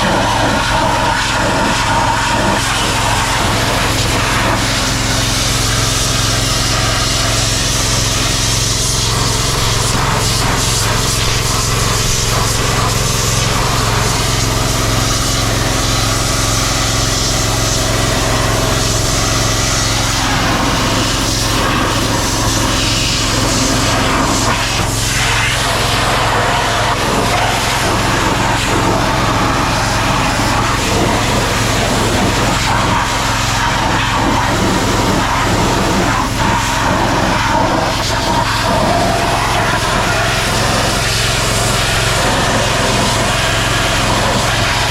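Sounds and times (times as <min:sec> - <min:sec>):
small engine running steadily: 0:00.0 - 0:44.9.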